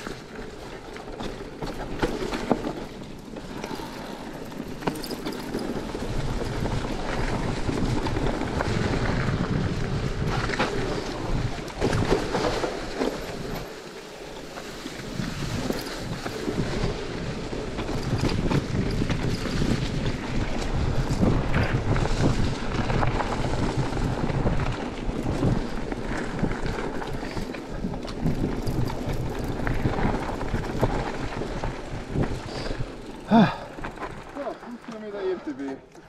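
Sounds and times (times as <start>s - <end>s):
bike rattles and knocks: 0.0s - 36.0s
bike tyre rumble on gravel: 0.0s - 36.0s
wind buffeting microphone: 3.6s - 13.8s, 14.4s - 34.6s.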